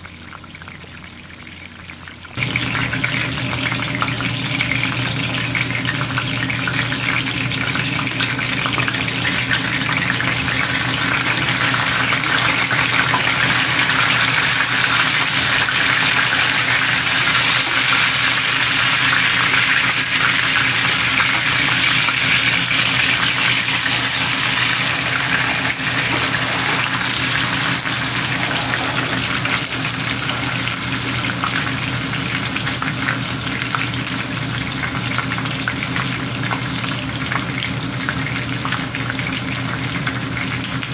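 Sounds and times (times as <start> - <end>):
meat sizzling in skillet: 2.4 - 40.9.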